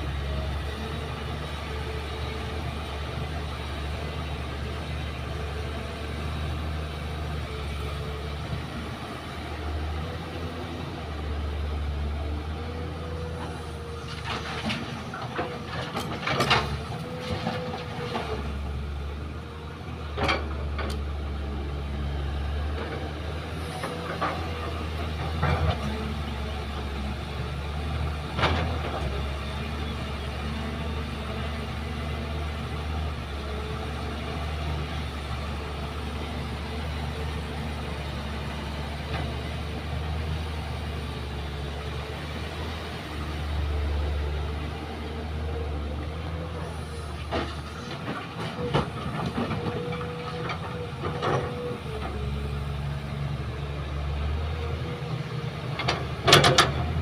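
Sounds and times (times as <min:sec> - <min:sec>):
diesel engines droning: 0:00.0 - 0:57.0.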